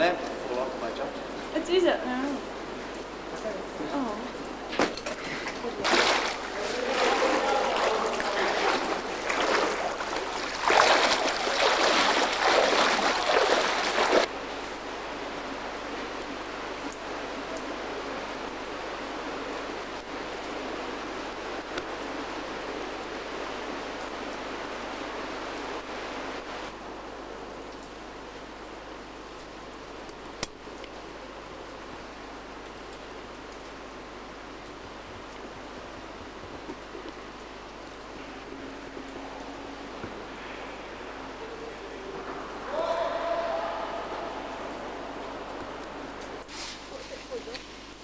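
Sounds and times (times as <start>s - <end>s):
steady low hiss: 0.0s - 48.0s
water rushing and splashing: 0.0s - 48.0s.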